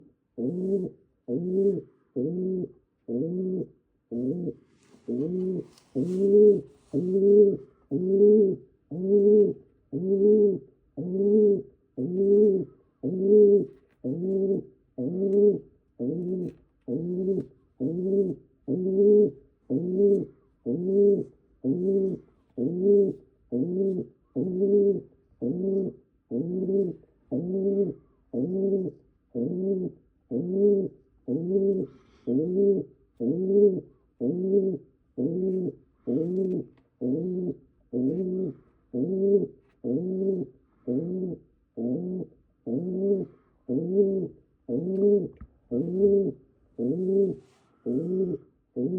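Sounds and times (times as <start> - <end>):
pigeon cooing: 0.0 - 48.9.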